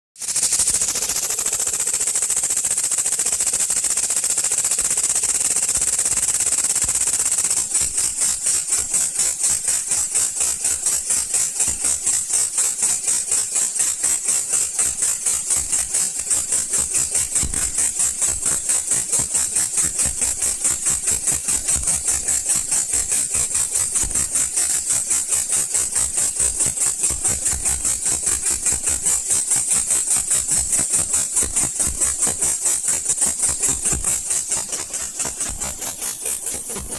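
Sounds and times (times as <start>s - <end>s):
pneumatic engine chuffing: 0.2s - 36.9s.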